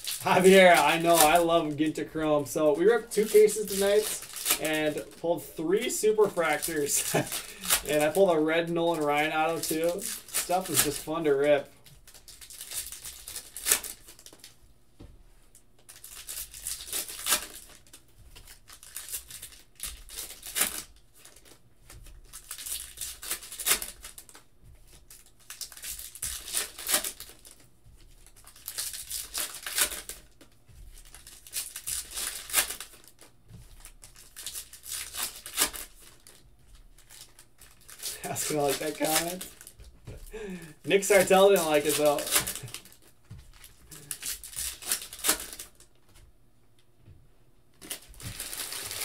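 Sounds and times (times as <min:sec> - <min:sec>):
foil wrappers tearing and crinkling: 0:00.0 - 0:14.6, 0:15.5 - 0:46.0, 0:47.7 - 0:49.0.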